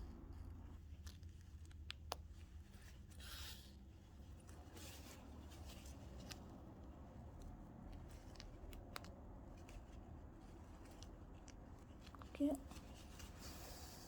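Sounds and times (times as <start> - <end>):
low steady hum: 0.0 - 14.0
light clicks of hand sewing: 0.2 - 14.0.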